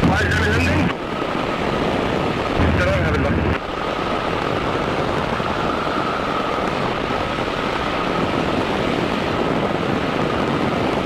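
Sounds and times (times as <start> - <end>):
aircraft engine and propeller: 0.0 - 11.0
faint steady whine: 0.0 - 11.0
wind rushing past: 0.0 - 11.0.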